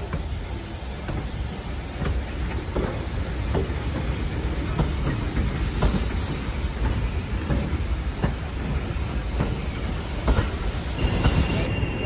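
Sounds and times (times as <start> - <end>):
steam train rolling by: 0.0 - 12.0.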